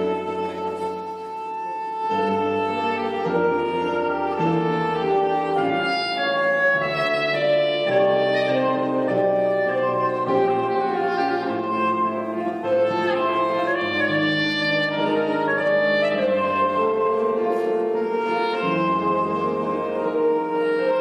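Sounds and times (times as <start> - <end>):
keyboard chords: 0.0 - 21.0
soprano saxophone melody: 0.0 - 21.0.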